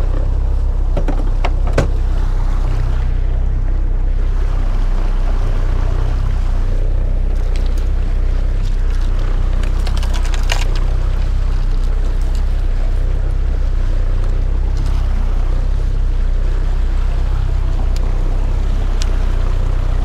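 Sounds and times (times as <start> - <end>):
outboard motor running: 0.0 - 20.0
water rushing past hull: 0.0 - 20.0.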